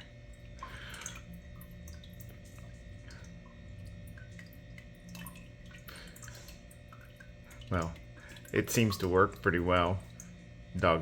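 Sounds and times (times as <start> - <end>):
faint steady hum: 0.0 - 11.0
water trickling and dripping: 0.0 - 11.0.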